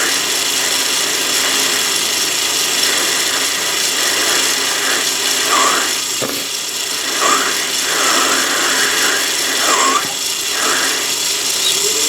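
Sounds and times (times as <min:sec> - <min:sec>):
lathe cutting metal rasping: 0:00.0 - 0:12.0.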